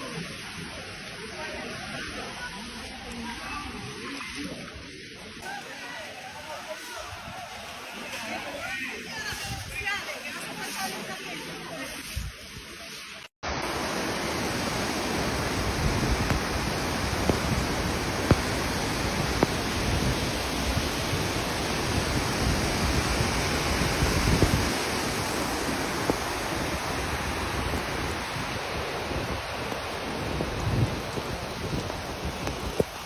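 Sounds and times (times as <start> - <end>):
rushing flood water: 0.0 - 33.0
heavy rain: 5.4 - 33.0.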